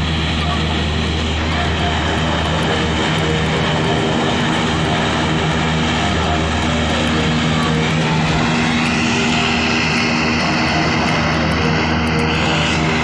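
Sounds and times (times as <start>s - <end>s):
hovercraft turbine drone: 0.0s - 13.0s.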